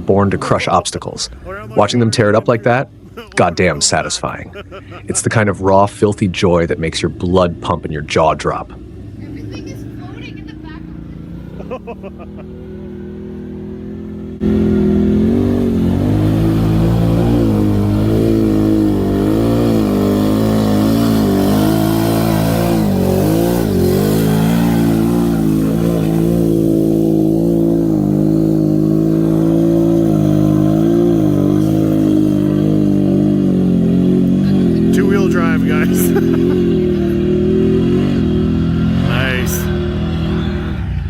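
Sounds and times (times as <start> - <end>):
truck engine running hard: 0.0 - 41.0.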